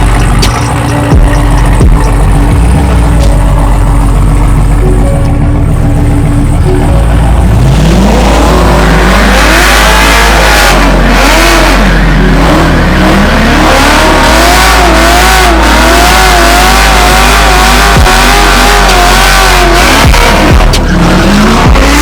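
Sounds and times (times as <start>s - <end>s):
cars accelerating hard: 0.0s - 22.0s
loud music with heavy bass: 0.0s - 22.0s.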